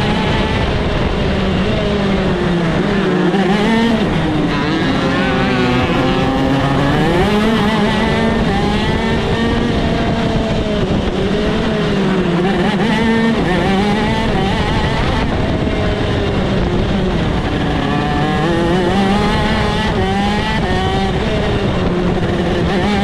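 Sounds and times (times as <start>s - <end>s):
kart engine running hard: 0.0s - 23.0s.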